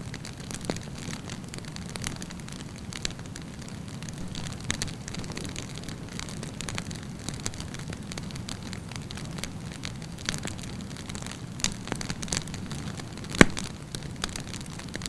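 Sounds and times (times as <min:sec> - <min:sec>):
campfire low rumble: 0:00.0 - 0:15.0
wood crackling and popping: 0:00.0 - 0:15.0.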